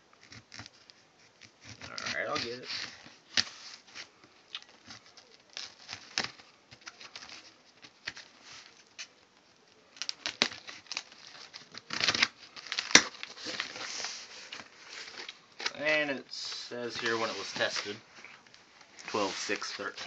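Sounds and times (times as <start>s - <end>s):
tape tearing rustle: 0.2s - 9.2s, 9.9s - 20.0s.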